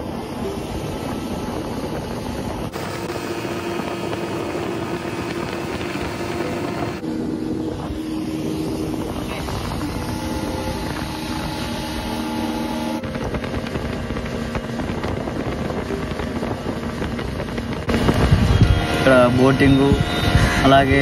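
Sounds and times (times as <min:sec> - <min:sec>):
speedboat motor running: 0:00.0 - 0:21.0
wind noise on microphone: 0:00.0 - 0:21.0.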